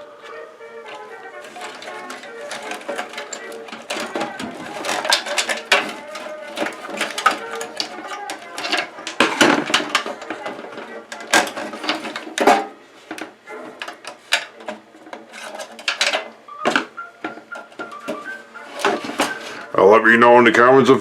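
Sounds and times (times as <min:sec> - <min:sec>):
computer parts clicking and rattling: 0:00.8 - 0:19.7.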